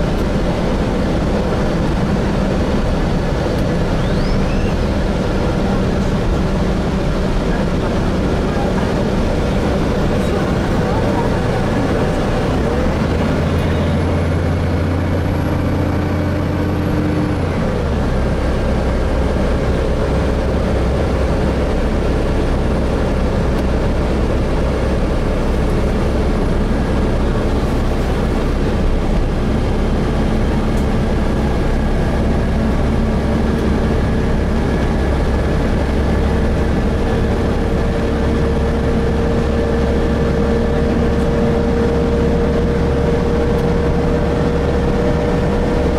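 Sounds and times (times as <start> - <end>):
bus engine droning: 0.0 - 45.9.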